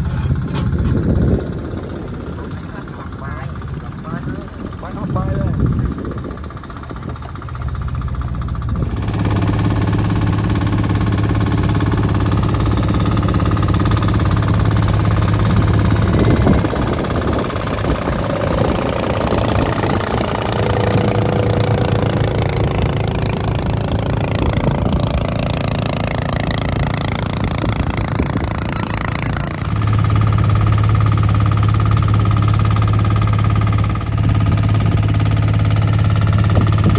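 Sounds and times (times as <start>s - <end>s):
motor engine running: 0.0s - 36.9s.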